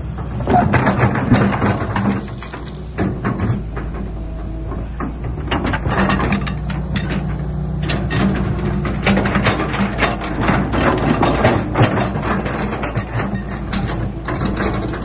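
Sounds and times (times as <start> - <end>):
diesel engine running: 0.0 - 15.0
metallic clanking and rattling: 0.0 - 15.0.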